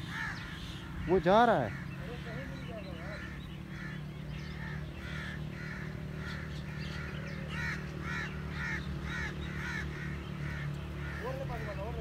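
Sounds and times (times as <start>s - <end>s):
bird harsh caw-like calls: 0.0s - 12.0s
steady low hum: 0.0s - 12.0s.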